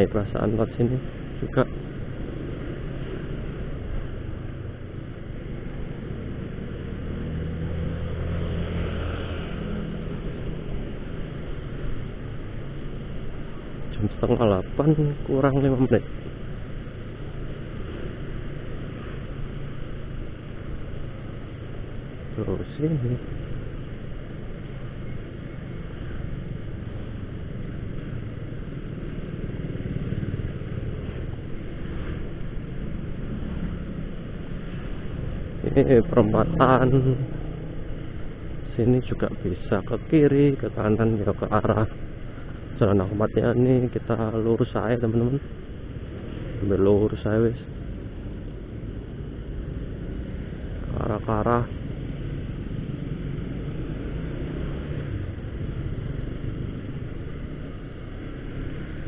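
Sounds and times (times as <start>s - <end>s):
motorcycle engine and road rumble: 0.0s - 59.0s.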